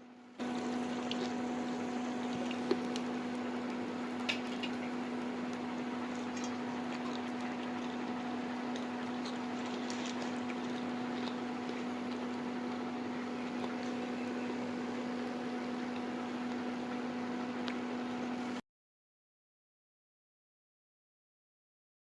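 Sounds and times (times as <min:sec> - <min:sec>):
steady hum: 0:00.0 - 0:18.6.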